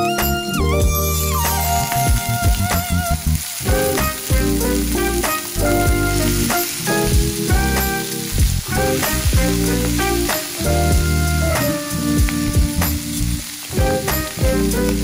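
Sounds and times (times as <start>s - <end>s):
instrumental music: 0.0s - 15.0s
food sizzling in a pan: 1.0s - 15.0s.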